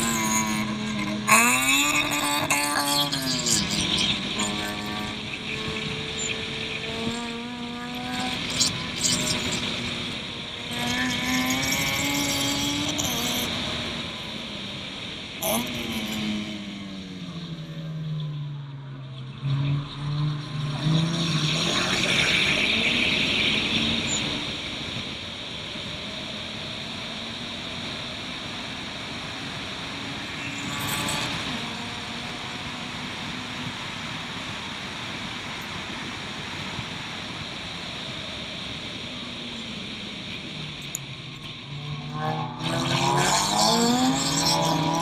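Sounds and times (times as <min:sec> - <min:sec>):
race car engine running: 0:00.0 - 0:45.0.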